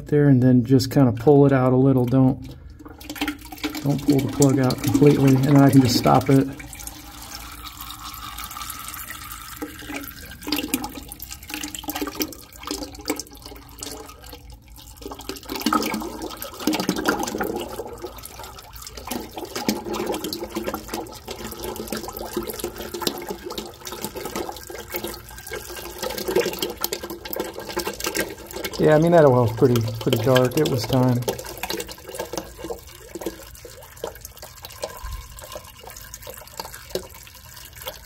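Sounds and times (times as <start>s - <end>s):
oil splashing into metal bucket: 0.0s - 38.0s.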